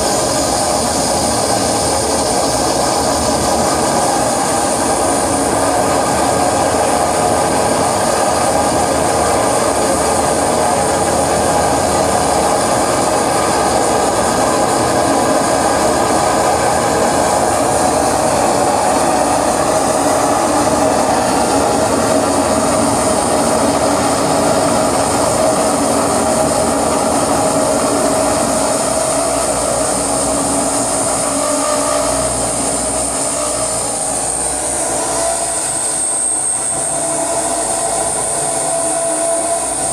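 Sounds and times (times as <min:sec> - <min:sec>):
loud dense wall of noise: 0:00.0 - 0:39.9.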